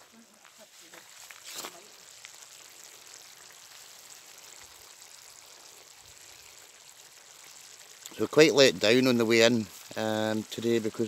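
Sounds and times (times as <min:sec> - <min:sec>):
sauce sizzling and bubbling: 0:00.0 - 0:11.0.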